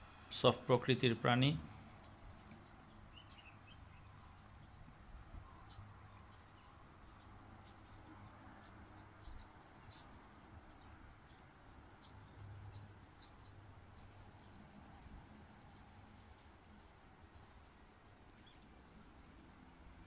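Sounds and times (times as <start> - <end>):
faint high-pitched ticks and chirps: 1.2 - 20.0.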